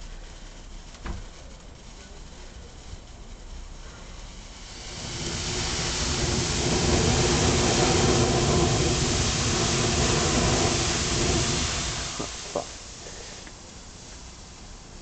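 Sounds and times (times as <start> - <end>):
firework fountain hissing: 0.0 - 15.0.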